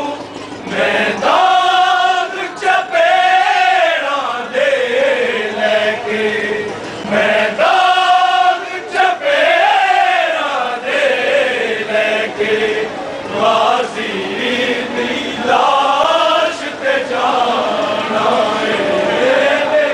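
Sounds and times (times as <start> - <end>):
men chanting a lament: 0.0 - 19.9.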